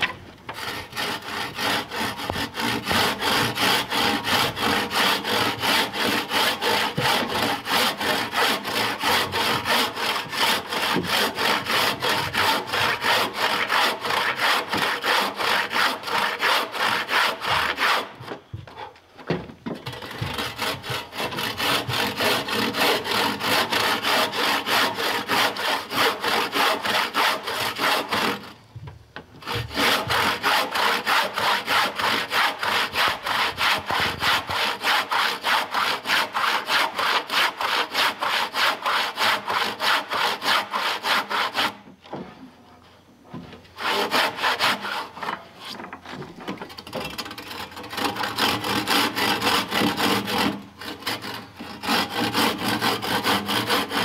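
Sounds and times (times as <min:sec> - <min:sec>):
handsaw cutting log: 0:00.0 - 0:18.9, 0:19.7 - 0:28.6, 0:29.4 - 0:41.8, 0:43.8 - 0:45.9, 0:46.9 - 0:54.0.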